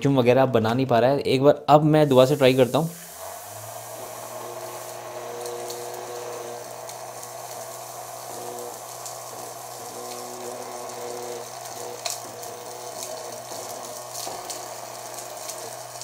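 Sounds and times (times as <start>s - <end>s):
small fan motor whirring: 3.0s - 16.0s.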